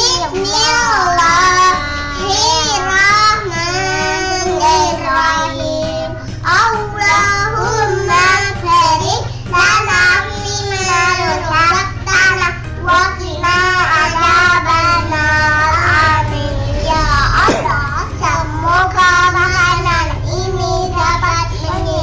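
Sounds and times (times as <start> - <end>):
young children singing: 0.0 - 22.0.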